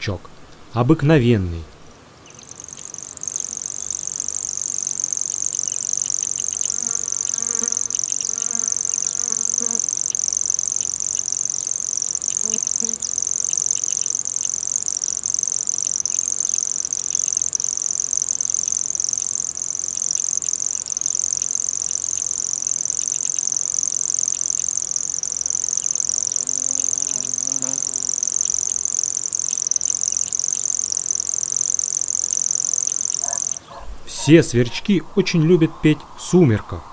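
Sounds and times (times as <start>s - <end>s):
grasshopper warbler reeling song: 0.0s - 36.9s.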